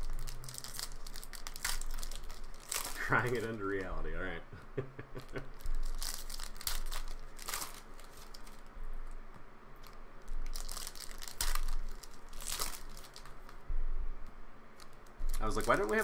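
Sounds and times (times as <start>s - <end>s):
foil wrappers crinkling and tearing: 0.0s - 4.4s, 5.2s - 8.7s, 9.8s - 13.6s, 14.8s - 16.0s.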